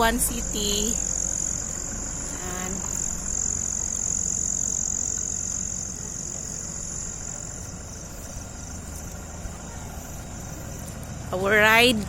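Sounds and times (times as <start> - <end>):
insects chirring: 0.0 - 12.0
vehicle engine idling: 0.0 - 12.0.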